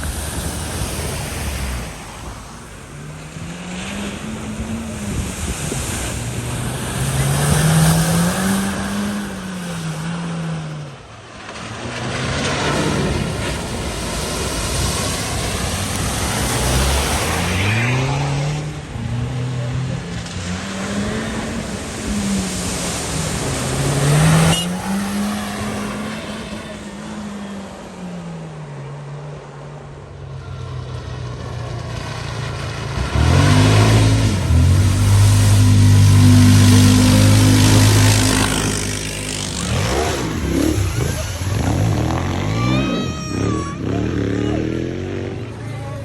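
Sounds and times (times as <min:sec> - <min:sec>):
car engine revving: 0:00.0 - 0:28.3, 0:31.4 - 0:46.0
water rushing and splashing: 0:00.0 - 0:46.0.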